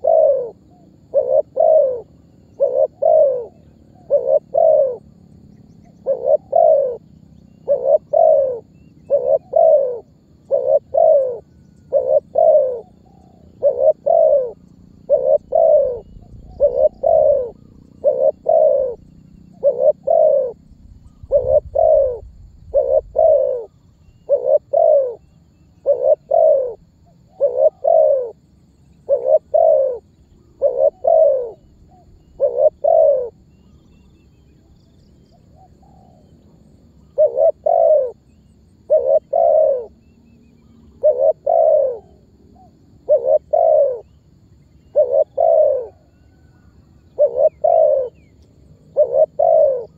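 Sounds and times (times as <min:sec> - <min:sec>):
dove cooing: 0:00.0 - 0:05.2, 0:05.8 - 0:34.7, 0:35.3 - 0:49.9.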